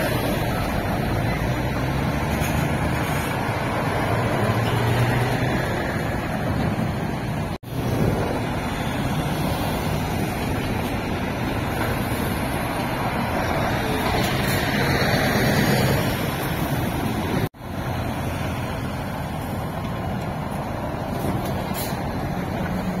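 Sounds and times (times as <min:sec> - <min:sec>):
heavy truck traffic: 0:00.0 - 0:23.0
truck driving past: 0:00.0 - 0:23.0.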